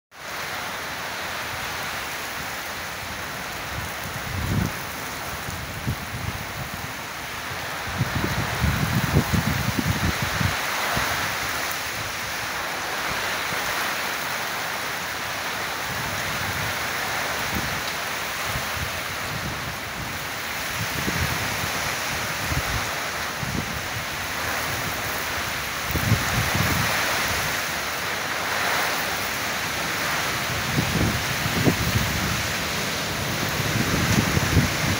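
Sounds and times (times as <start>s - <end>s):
rain hiss: 0.2s - 34.9s
wind gusts on microphone: 0.2s - 34.9s.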